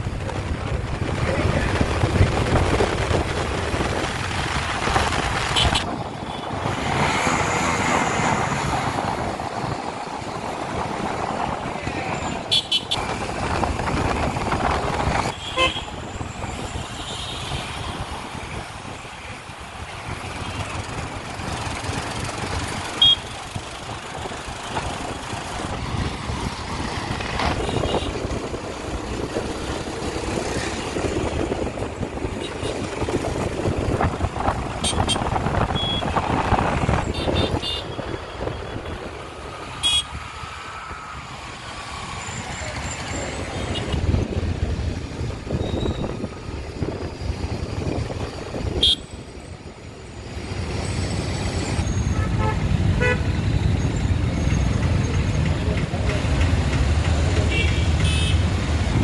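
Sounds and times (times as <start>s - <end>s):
motorcycle engine and wind noise: 0.0s - 40.3s, 40.9s - 59.0s
passing vehicles: 0.0s - 59.0s.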